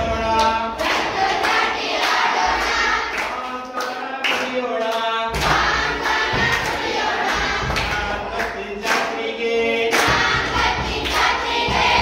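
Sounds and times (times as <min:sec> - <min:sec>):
children singing: 0:00.0 - 0:04.6, 0:05.2 - 0:12.0
hand claps: 0:00.3 - 0:12.0.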